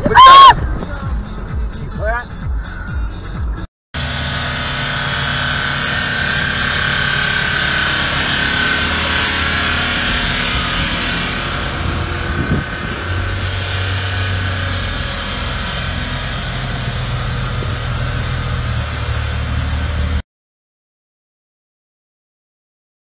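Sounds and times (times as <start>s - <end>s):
vehicle engine hum: 0.0s - 20.2s.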